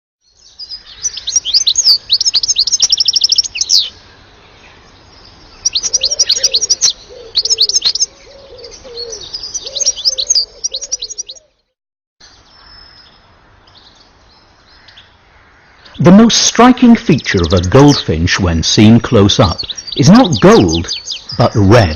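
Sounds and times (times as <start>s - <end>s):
finch twittering trills: 0.2s - 11.6s, 12.2s - 21.9s.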